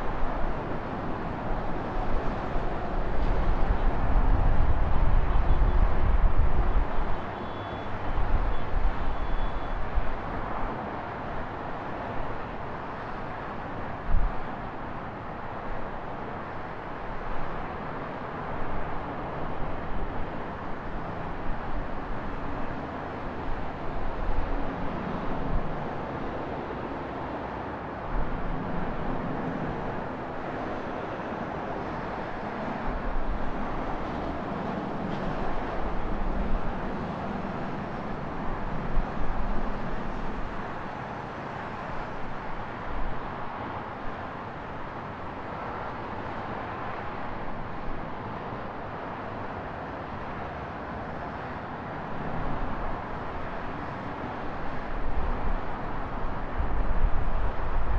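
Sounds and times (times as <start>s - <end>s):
gusty wind rumble: 0.0s - 57.9s
road and traffic noise: 0.0s - 57.9s.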